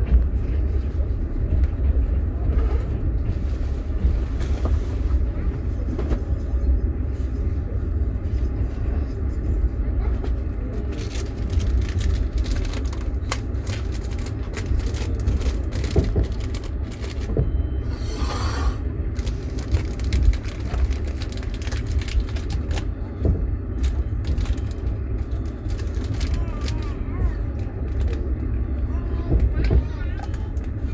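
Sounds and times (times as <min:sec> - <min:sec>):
train wheels rumbling: 0:00.0 - 0:30.9.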